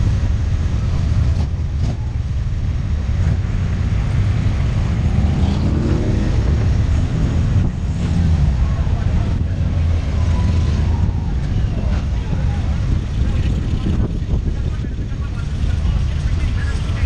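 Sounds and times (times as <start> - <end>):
motorcycle engine revving: 0.0 - 17.0
motorcycle engines rumbling: 0.0 - 17.0.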